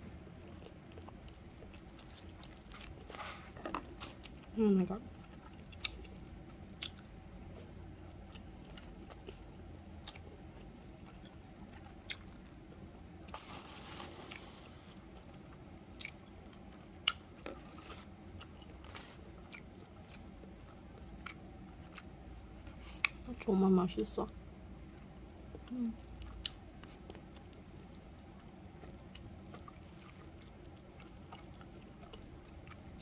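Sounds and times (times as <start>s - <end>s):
person chewing food: 0.0s - 4.5s, 5.1s - 23.3s, 24.8s - 33.0s.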